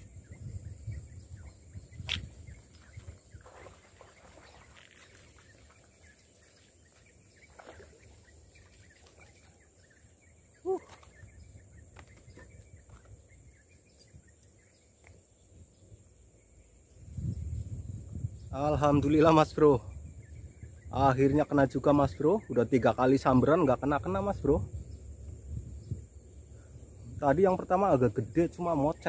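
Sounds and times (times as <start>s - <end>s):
faint bird chirps: 0.0s - 23.8s.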